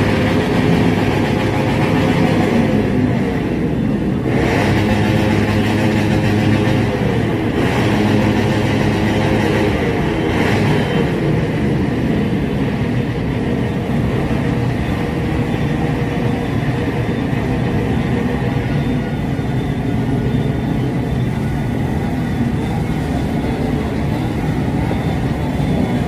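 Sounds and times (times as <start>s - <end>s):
vehicle engines droning: 0.0s - 26.0s.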